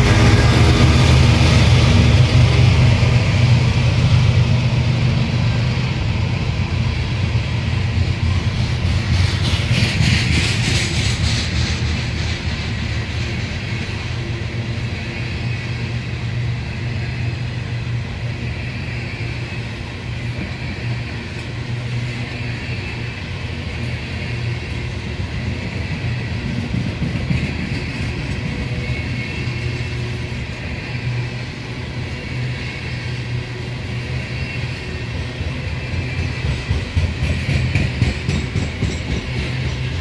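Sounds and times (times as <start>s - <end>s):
rattling clatter of train cars: 0.0s - 40.0s
train wheels rumbling on rails: 0.0s - 40.0s.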